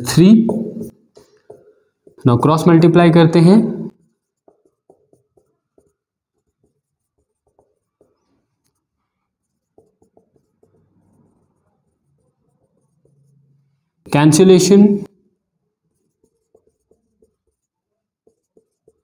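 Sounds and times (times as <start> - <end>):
marker pen writing on whiteboard: 0.0 - 19.0.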